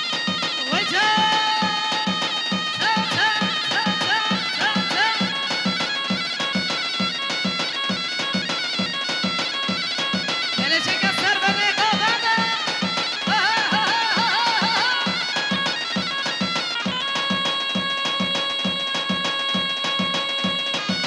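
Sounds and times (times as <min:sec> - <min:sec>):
folk dance melody: 0:00.0 - 0:21.0
steady drum beat: 0:00.0 - 0:21.0.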